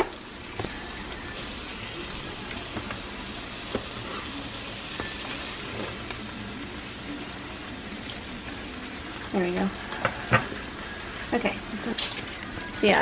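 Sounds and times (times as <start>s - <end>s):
bacon sizzling in pan: 0.0s - 13.0s.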